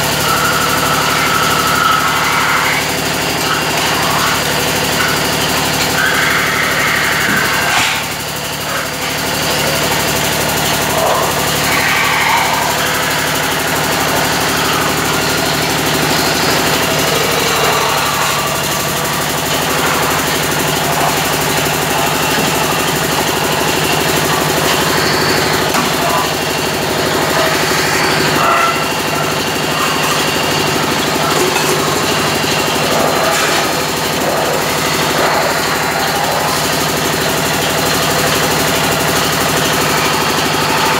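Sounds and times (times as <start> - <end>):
metal-spinning lathe humming: 0.0 - 40.9.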